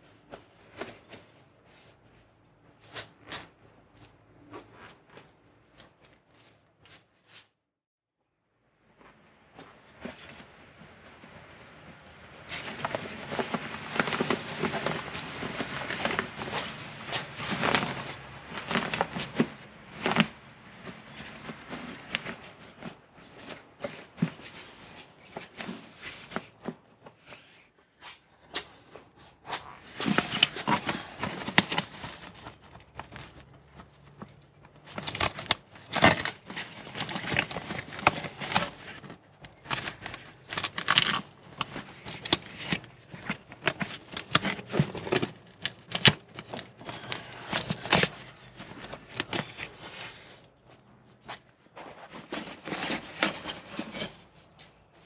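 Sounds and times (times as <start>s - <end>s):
fabric rustling and crinkling: 9.0s - 55.0s.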